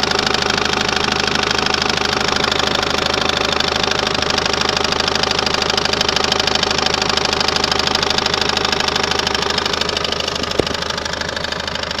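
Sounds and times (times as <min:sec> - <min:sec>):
diesel engine idling with rattle: 0:00.0 - 0:12.0.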